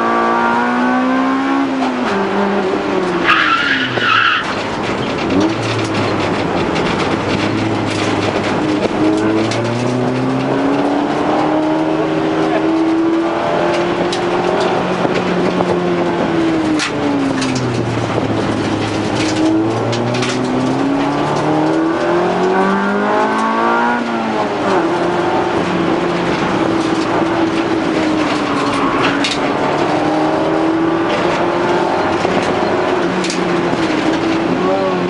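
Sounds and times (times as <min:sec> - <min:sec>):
race car engine from cabin: 0:00.0 - 0:35.0.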